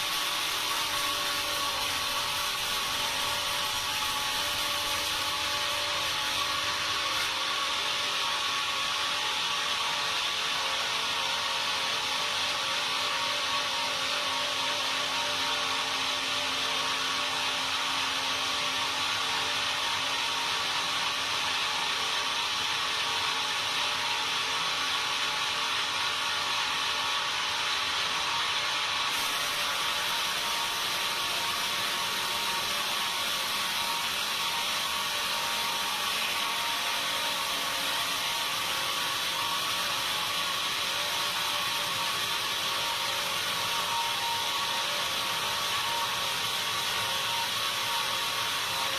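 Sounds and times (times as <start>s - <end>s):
saw whining through timber: 0.0s - 48.9s.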